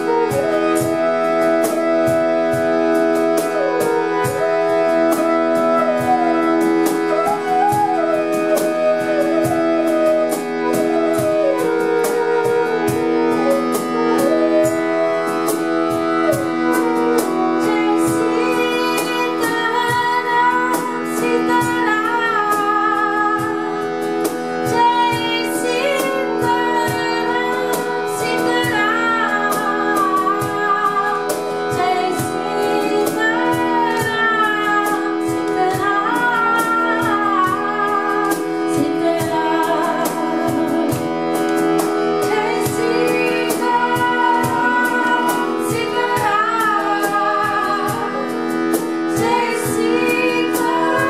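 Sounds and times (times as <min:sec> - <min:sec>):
flute melody: 0:00.0 - 0:51.0
woman singing: 0:00.0 - 0:51.0
steady drone: 0:00.1 - 0:51.0.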